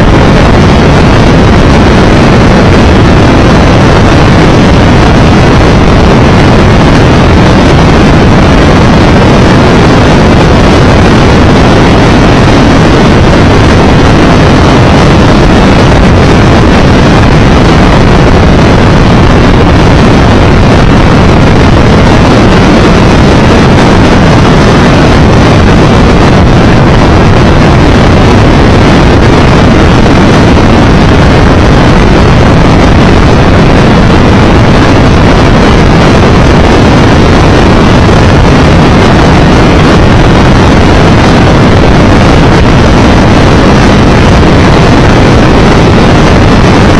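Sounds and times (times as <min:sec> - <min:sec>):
wind rush and road noise: 0:00.0 - 0:46.9.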